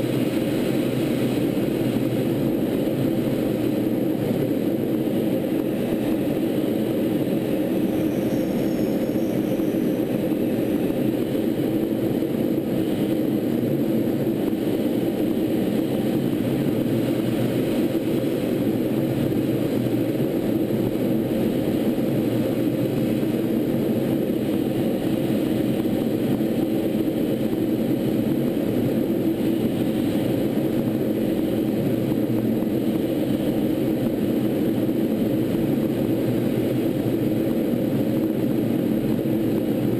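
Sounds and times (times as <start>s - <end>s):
jet engine drone: 0.0s - 39.9s
rushing air: 0.0s - 39.9s.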